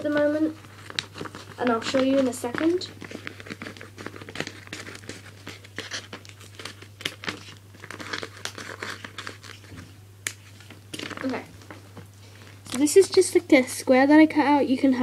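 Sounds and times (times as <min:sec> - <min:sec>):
plastic sheet crinkling: 0:00.0 - 0:13.6.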